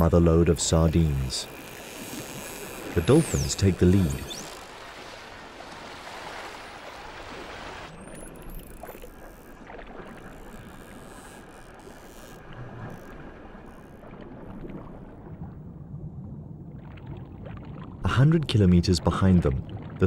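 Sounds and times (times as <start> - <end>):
rushing water underwater: 0.0 - 20.0.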